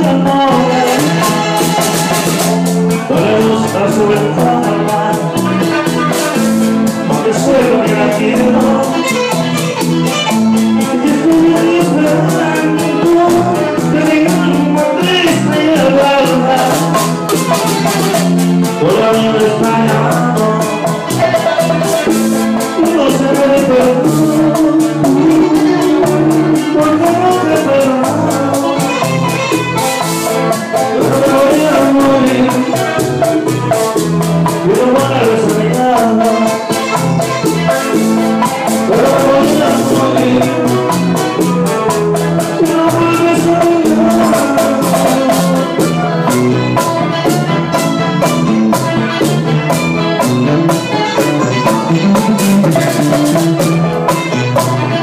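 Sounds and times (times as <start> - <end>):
latin dance band playing: 0.0 - 55.0.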